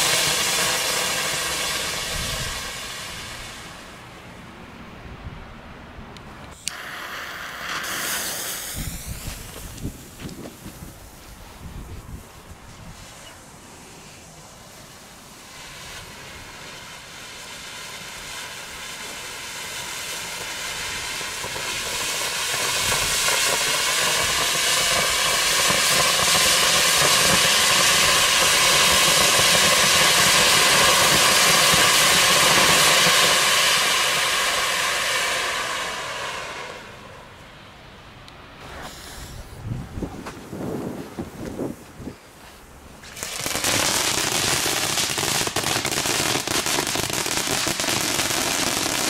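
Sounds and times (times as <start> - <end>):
firework fountain hissing: 0.0 - 4.4, 6.5 - 49.0.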